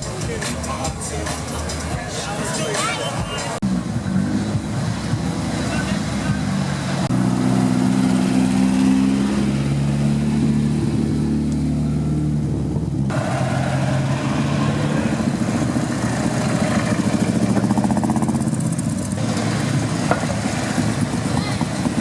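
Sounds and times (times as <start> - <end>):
car engines idling and revving: 0.0 - 22.0.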